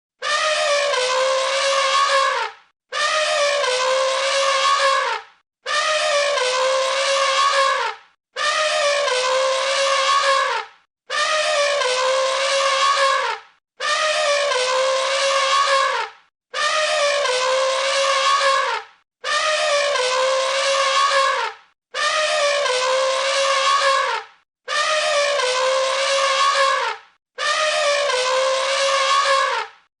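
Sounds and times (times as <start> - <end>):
cartoon elephant trumpet: 0.2 - 29.9.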